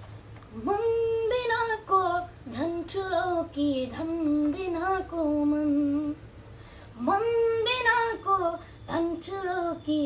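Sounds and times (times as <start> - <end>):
boy singing: 0.6 - 6.2, 7.0 - 10.0.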